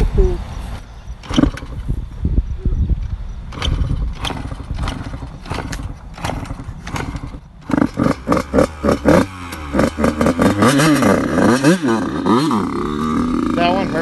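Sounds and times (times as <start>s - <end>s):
dirt bike kick-start strokes: 1.1s - 2.1s, 3.0s - 14.0s
dirt bike engine revving: 1.2s - 2.1s, 3.4s - 14.0s.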